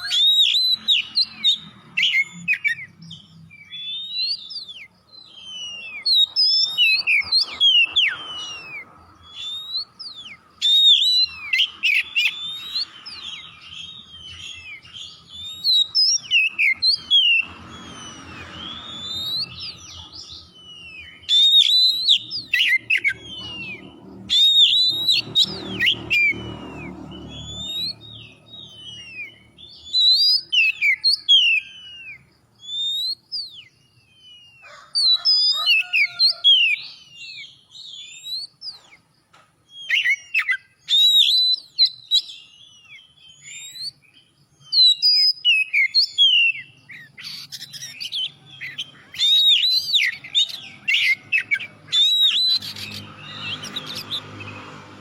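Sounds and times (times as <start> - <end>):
bird singing whistled notes: 0.0 - 54.8.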